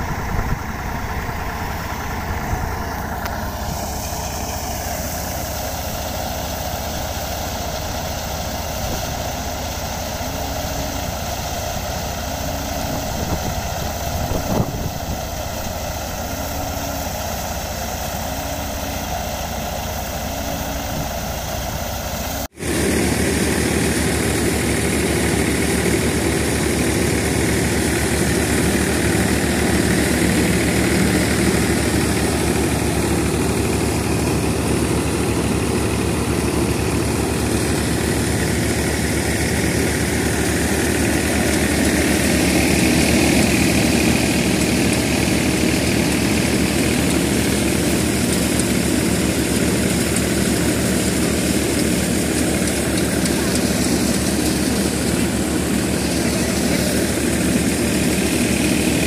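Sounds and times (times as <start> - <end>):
threshing machine and tractor engine: 0.0 - 59.0.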